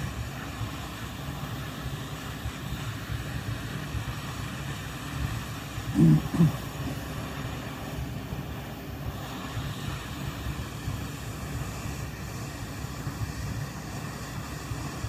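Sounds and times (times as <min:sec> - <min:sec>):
hot air station hissing: 0:00.0 - 0:15.0.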